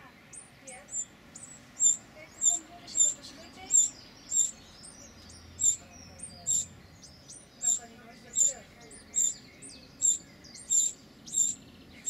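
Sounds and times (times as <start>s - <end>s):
fledglings begging calls: 0.0s - 12.0s.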